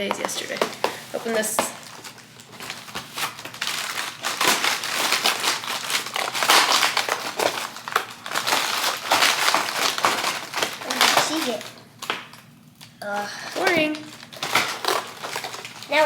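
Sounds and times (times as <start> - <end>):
paper and packaging crinkling: 0.0 - 16.0.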